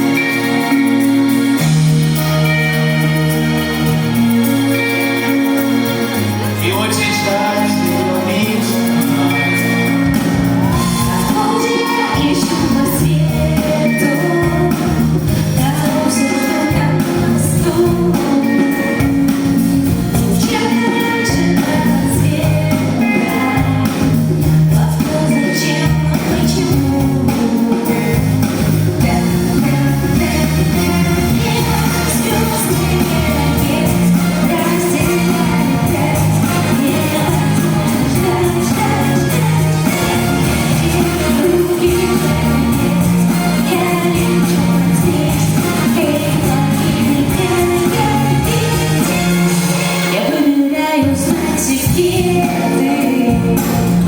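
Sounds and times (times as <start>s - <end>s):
live band playing pop song: 0.0s - 54.0s
woman singing: 6.6s - 54.0s.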